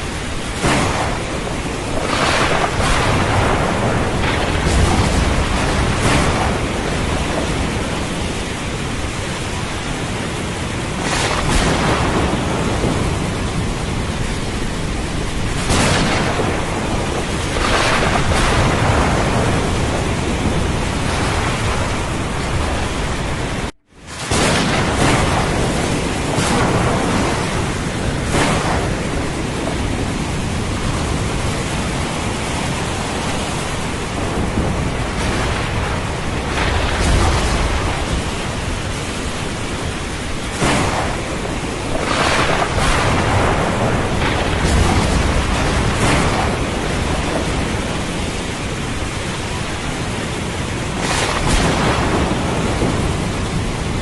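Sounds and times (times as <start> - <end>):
heavy rain: 0.0 - 54.0
rumbling thunder: 0.0 - 54.0.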